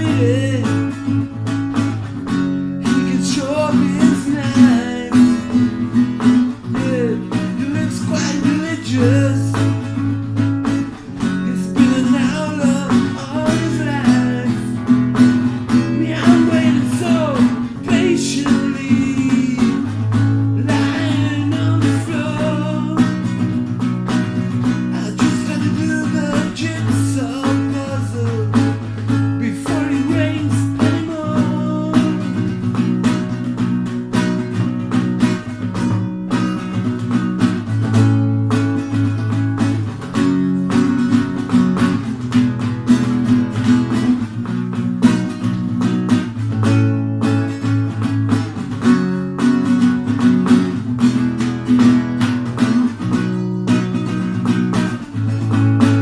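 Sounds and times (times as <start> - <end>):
rock song on strummed guitars: 0.0 - 56.0
sliding guitar lines: 0.0 - 56.0.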